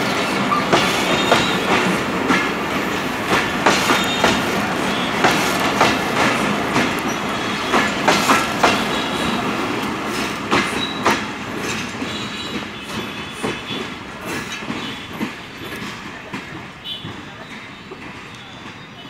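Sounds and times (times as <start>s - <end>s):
train rumble: 0.0s - 19.0s
train wheels clacking on rail joints: 0.0s - 19.0s.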